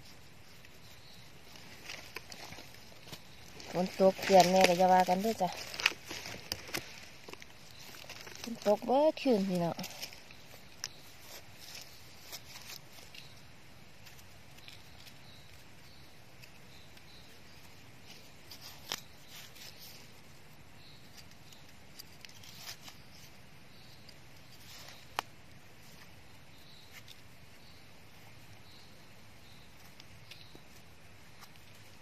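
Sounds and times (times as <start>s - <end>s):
rustling of dry leaves: 0.0s - 32.0s.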